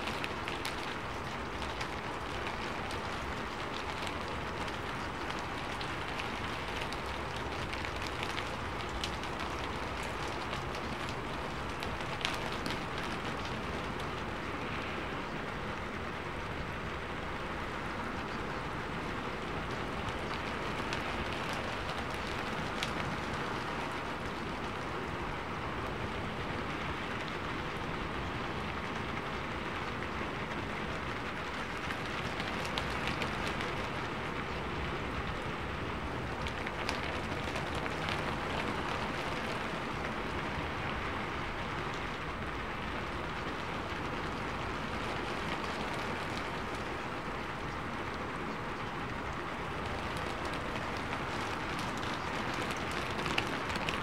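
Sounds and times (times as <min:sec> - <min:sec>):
raindrop ticks: 0:00.0 - 0:54.0
steady rain hiss: 0:00.0 - 0:54.0.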